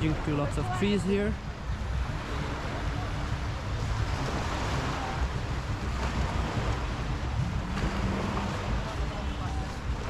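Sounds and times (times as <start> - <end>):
small waves washing on shore: 0.0 - 10.0
wind buffeting microphone: 0.0 - 10.0.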